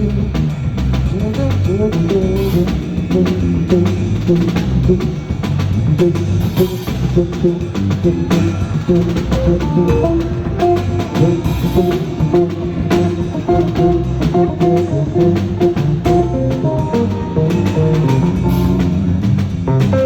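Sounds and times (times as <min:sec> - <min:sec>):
bass: 0:00.0 - 0:20.0
drum kit: 0:00.0 - 0:20.0
electric guitar notes: 0:01.8 - 0:20.0.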